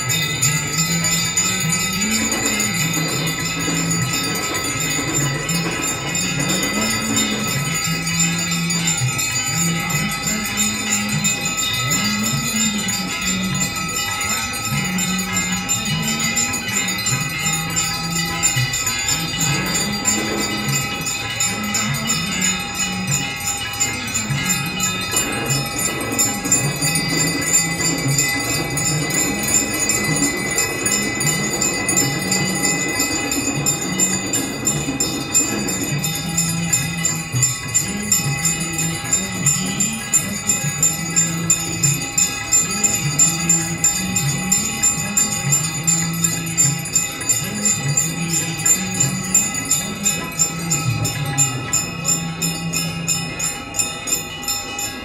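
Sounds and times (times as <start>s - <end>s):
man singing devotional song: 0.0s - 53.6s
brass bells ringing rapidly: 0.0s - 55.0s.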